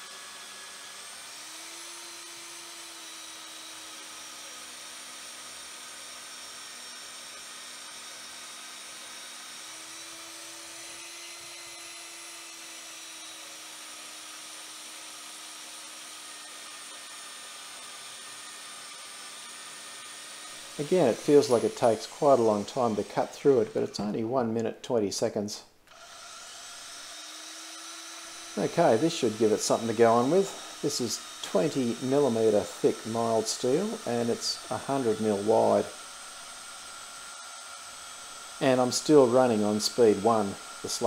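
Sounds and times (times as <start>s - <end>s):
bandsaw motor whine: 0.0s - 24.2s, 25.9s - 41.0s.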